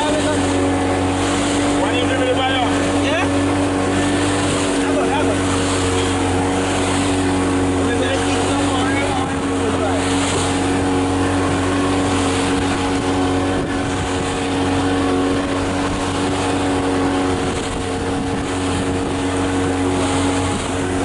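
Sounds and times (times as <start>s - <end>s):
motorboat engine running: 0.0s - 21.0s
wind and water rushing: 0.0s - 21.0s.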